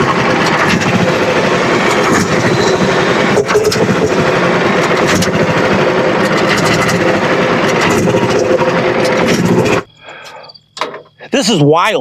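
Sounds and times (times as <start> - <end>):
bandsaw sawmill cutting: 0.0 - 9.9.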